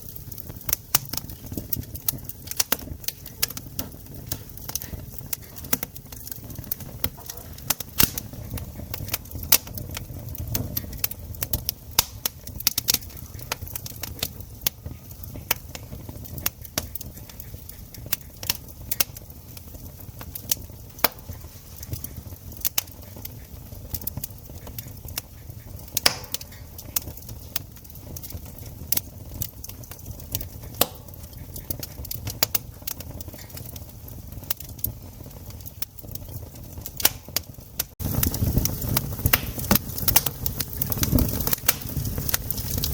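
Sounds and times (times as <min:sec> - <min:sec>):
campfire crackling: 0:00.0 - 0:42.9
low rumble of burning fire: 0:00.0 - 0:42.9.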